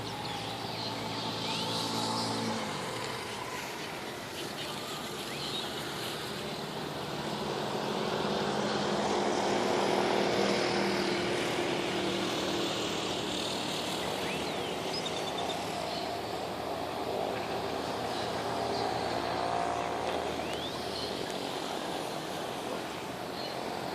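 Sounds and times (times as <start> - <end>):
traffic rumble: 0.0 - 23.9
vehicle engine passing: 0.0 - 23.9.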